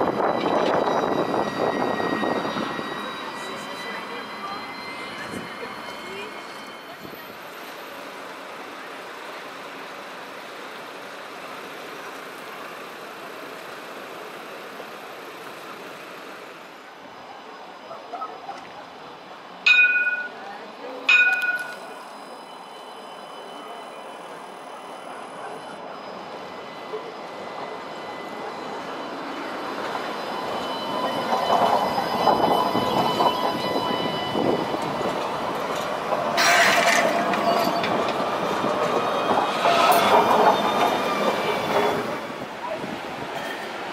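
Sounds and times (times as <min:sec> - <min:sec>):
street traffic: 0:00.0 - 0:43.9
trams humming: 0:00.0 - 0:43.9.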